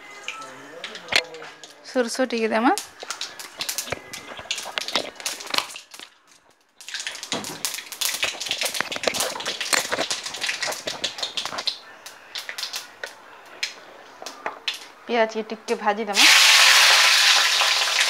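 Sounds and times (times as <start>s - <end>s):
seeds popping in hot oil: 0.2s - 14.9s, 15.7s - 18.0s.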